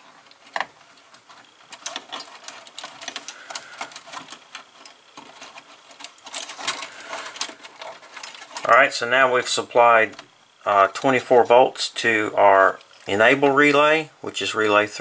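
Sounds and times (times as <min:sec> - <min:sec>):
wires rustling and clicking in duct: 0:00.0 - 0:14.0.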